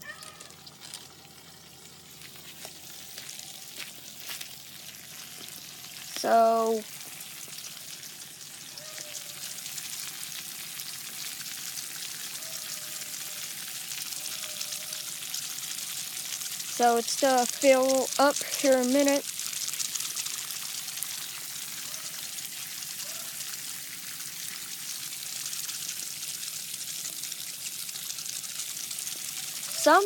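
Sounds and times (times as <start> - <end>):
water spraying from nozzles: 0.0 - 30.0.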